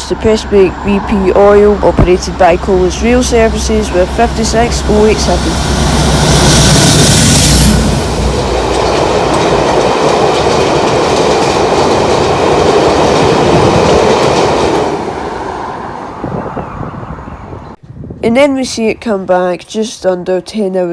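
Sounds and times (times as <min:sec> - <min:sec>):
train wheels on rails: 0:00.0 - 0:17.7
diesel locomotive engine: 0:00.0 - 0:17.8.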